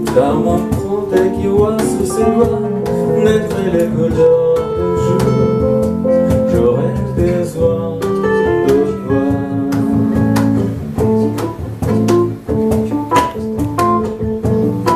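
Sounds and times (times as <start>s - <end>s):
bass line: 0.0s - 14.9s
plucked guitar: 0.0s - 14.9s.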